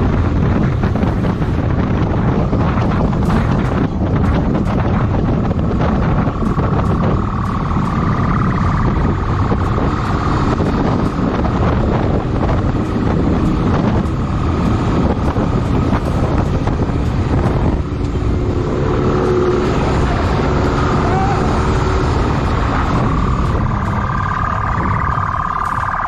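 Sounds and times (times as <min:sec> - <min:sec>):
motorcycle engine rumble: 0:00.0 - 0:26.0
wind noise on microphone: 0:00.0 - 0:26.0.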